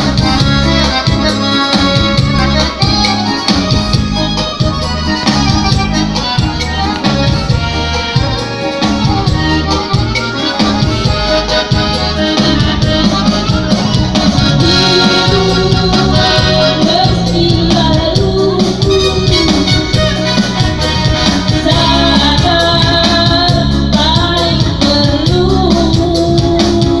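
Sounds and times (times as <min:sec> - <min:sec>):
accordion-like keyboard melody: 0:00.0 - 0:27.0
busy backing beat: 0:00.0 - 0:27.0.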